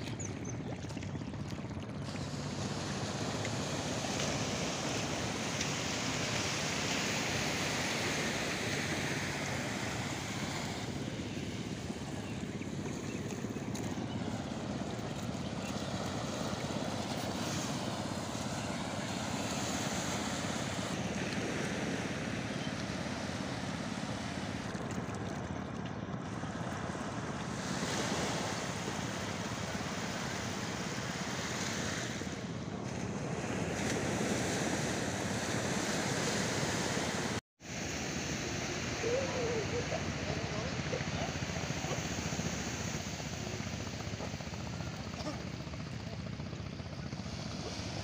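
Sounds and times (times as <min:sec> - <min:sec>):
waves washing up a beach: 0:00.0 - 0:25.4, 0:26.3 - 0:48.0.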